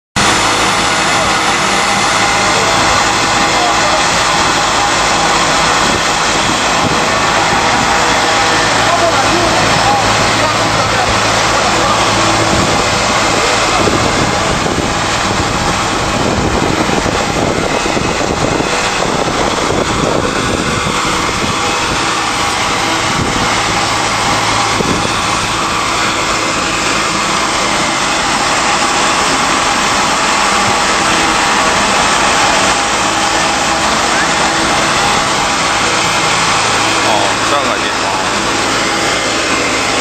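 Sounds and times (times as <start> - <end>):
stalk crusher shredding: 0.2 - 40.0.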